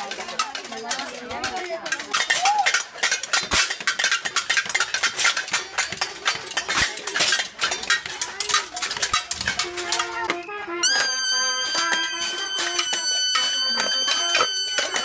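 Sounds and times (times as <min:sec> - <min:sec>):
pots and pans clanging: 0:00.0 - 0:15.0.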